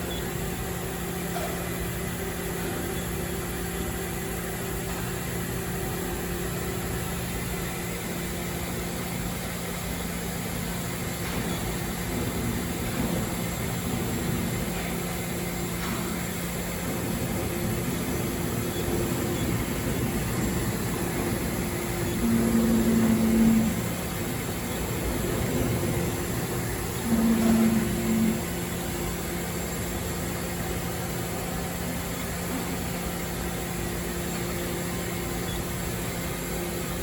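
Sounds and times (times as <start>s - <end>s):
lathe machine hum: 0.0s - 36.9s
machine whine: 0.0s - 37.0s.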